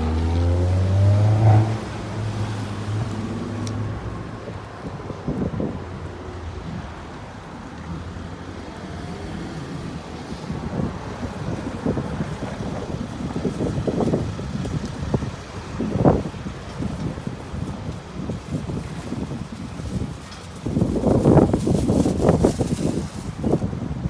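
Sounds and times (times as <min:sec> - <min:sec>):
road traffic rumble: 0:00.0 - 0:24.0
wind gusting on microphone: 0:00.0 - 0:24.0.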